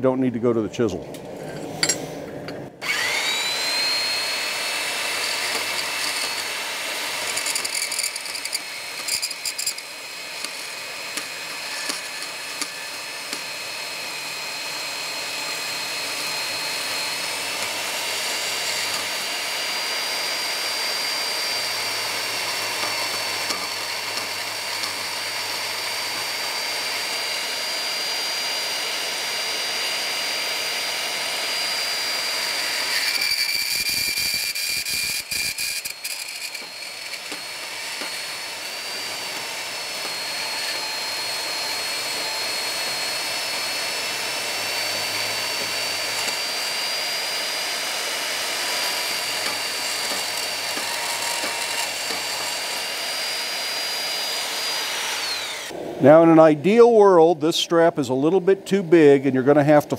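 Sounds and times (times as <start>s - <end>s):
bandsaw cutting steel: 1.4s - 58.8s.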